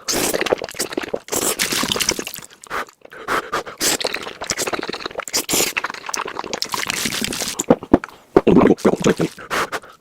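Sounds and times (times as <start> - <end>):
wet chewing and crunching: 0.0 - 9.9.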